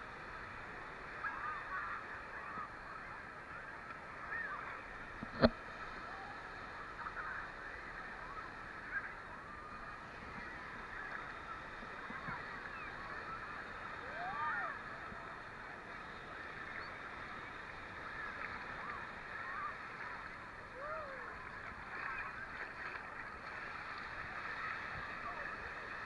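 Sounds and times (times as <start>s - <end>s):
waves sloshing: 0.0s - 26.0s.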